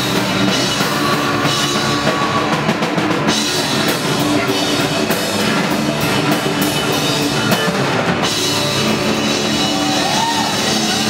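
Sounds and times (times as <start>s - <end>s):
distorted guitars and bass: 0.0s - 11.0s
drums with cymbal crashes: 0.0s - 11.0s.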